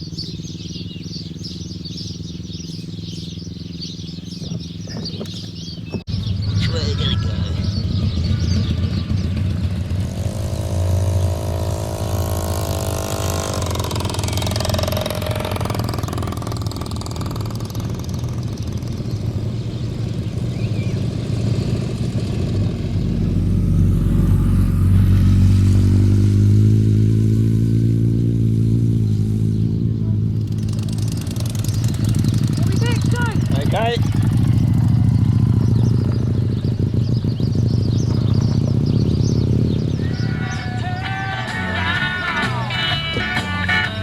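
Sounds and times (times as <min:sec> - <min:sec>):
loud deep motorcycle engine: 0:00.0 - 0:44.0
motorcycle engine climbing in pitch: 0:00.0 - 0:44.0.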